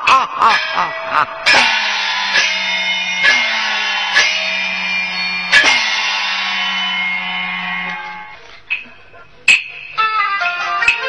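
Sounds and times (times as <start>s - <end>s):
sustained ringing instrumental tones: 0.4s - 11.0s
sharp percussion strike: 0.5s - 10.1s.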